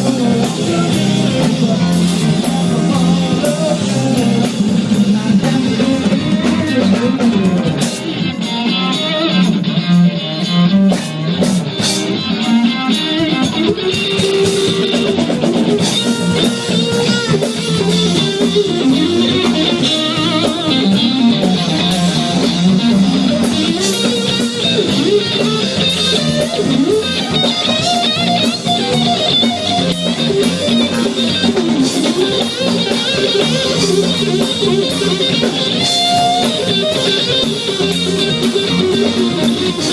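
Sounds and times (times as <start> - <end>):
drum kit: 0.0 - 39.9
electric guitar melody: 0.0 - 39.9.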